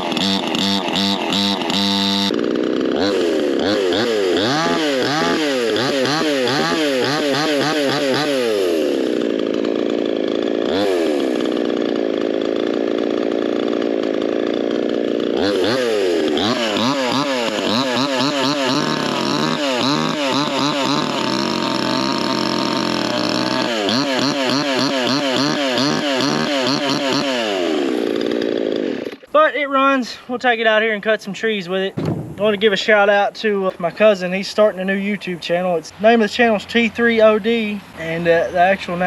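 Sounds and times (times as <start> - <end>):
chainsaw revving: 0.0 - 29.3, 32.0 - 39.0.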